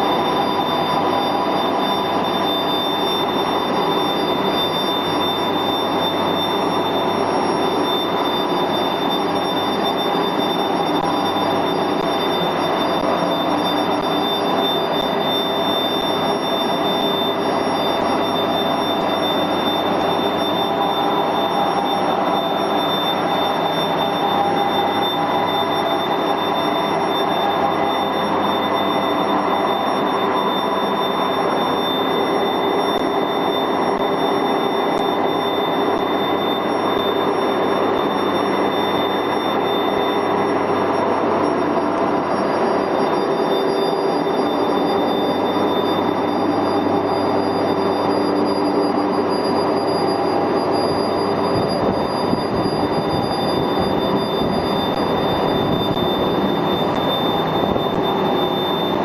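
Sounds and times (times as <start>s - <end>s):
high machine whine: 0.0s - 59.0s.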